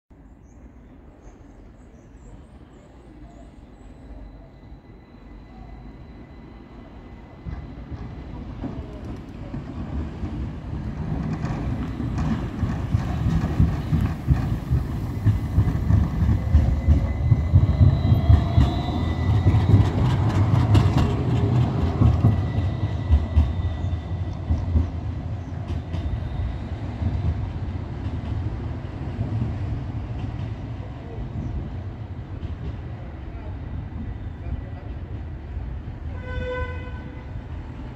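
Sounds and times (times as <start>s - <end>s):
tram rumbling past: 0.2s - 37.9s.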